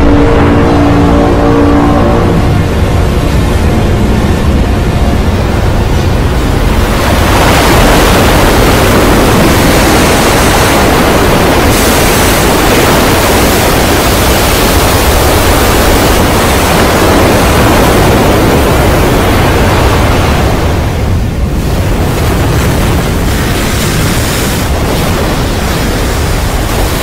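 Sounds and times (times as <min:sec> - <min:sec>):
heavy surf breaking waves: 0:00.0 - 0:27.0
wind: 0:00.0 - 0:27.0.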